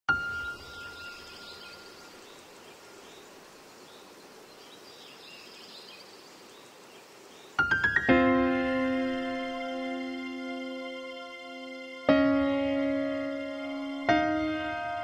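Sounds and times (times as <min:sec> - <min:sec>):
faint background noise: 0:00.1 - 0:15.0.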